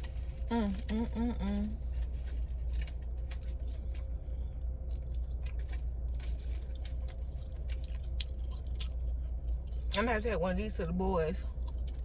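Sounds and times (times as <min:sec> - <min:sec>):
person chewing sandwich: 0:00.0 - 0:10.0, 0:11.5 - 0:12.0
low rumble inside car: 0:00.0 - 0:12.0.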